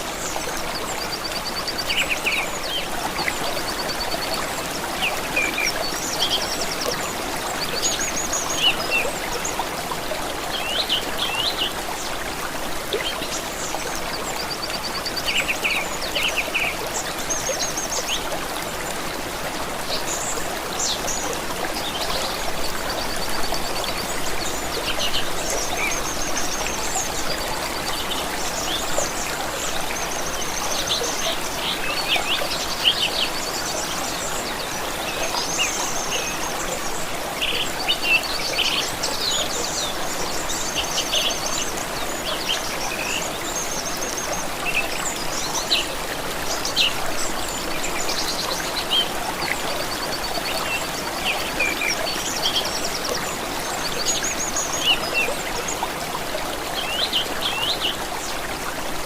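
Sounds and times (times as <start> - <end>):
songbirds calling and trilling: 0.0 - 59.0
stream water running: 0.0 - 59.0.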